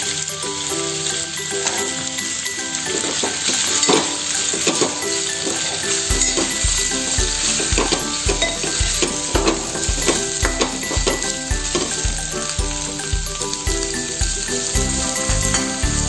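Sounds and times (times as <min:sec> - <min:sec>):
background music with a beat: 0:00.0 - 0:16.0
vegetables sizzling in oil: 0:00.0 - 0:16.0.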